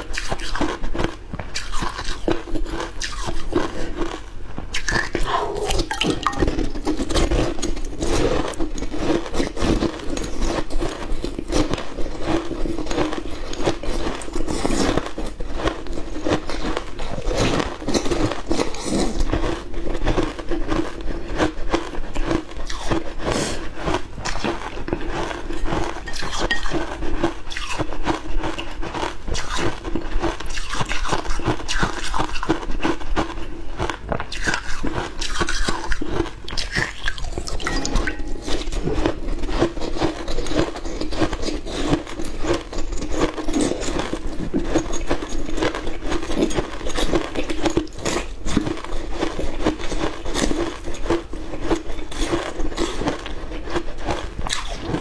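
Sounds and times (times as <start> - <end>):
ice being bitten and chewed: 0.0 - 55.0.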